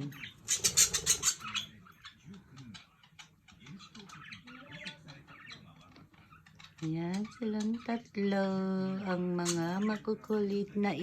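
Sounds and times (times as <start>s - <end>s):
budgerigars squawking and chattering: 0.0s - 10.5s.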